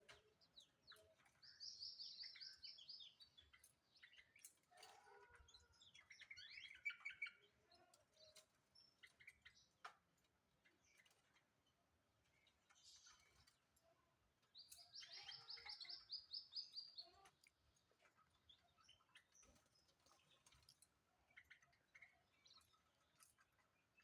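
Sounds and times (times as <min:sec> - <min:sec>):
small bird singing faintly: 0:00.0 - 0:24.0.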